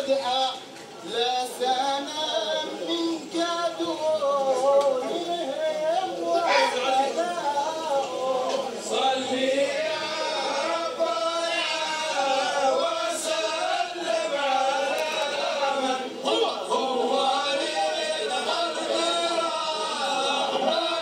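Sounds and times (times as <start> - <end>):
men singing and chanting: 0.0 - 21.0.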